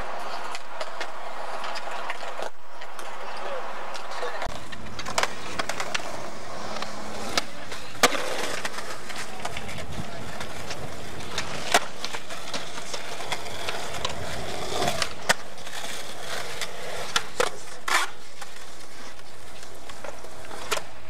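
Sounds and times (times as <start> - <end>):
skateboard clacking: 0.0 - 21.0
skateboard wheels rolling on concrete: 0.0 - 21.0.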